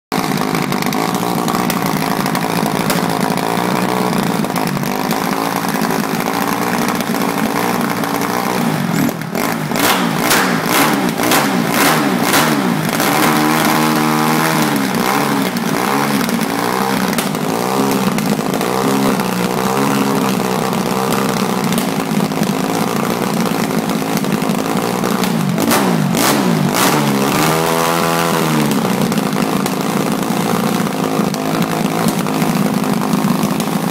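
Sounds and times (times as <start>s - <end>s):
motorbike engine revving: 0.1s - 33.9s.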